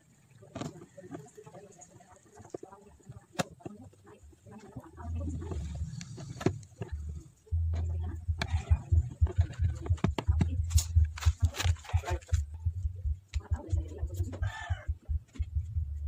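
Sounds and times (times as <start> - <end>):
low choppy rumble: 0.9 - 16.0.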